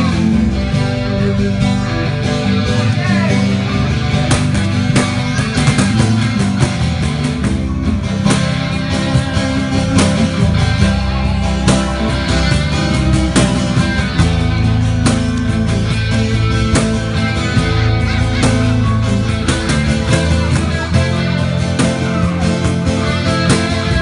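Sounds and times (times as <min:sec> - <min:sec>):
live band playing loud music: 0:00.0 - 0:24.0.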